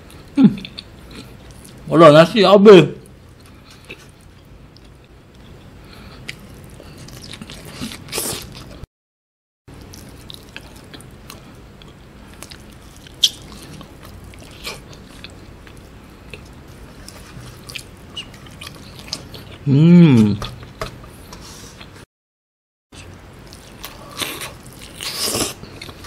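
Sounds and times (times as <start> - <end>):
man chewing food: 0.0 - 1.9, 3.1 - 8.9, 9.7 - 22.0, 23.0 - 26.0.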